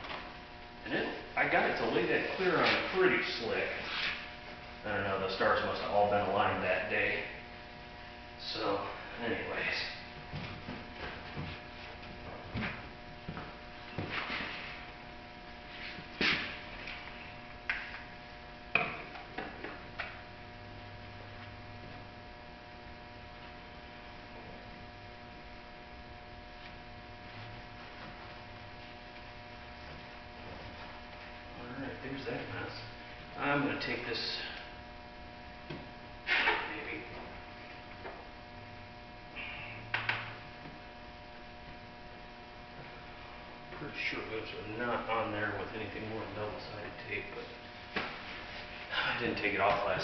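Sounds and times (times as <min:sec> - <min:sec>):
steady electrical hum: 0:00.0 - 0:50.0.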